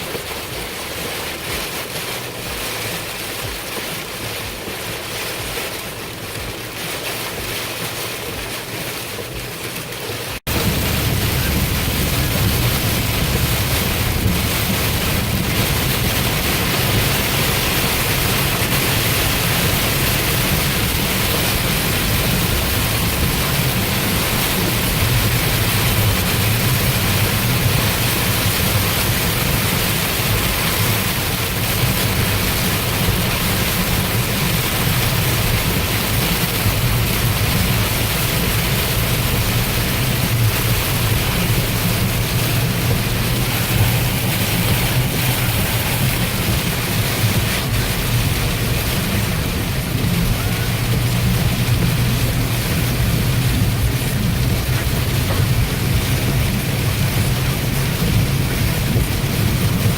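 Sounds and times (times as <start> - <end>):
car engine drone: 0.0 - 59.9
rain and wet road hiss: 0.0 - 59.9.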